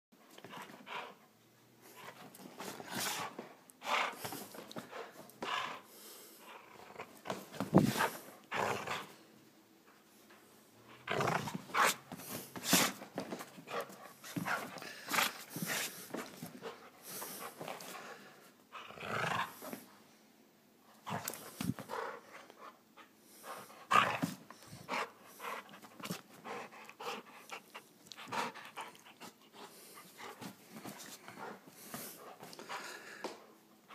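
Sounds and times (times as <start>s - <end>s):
dog panting: 0.3s - 9.1s, 10.9s - 18.9s, 21.0s - 33.9s
dog play growling: 1.9s - 9.2s, 10.9s - 19.9s, 21.0s - 22.7s, 23.4s - 32.9s.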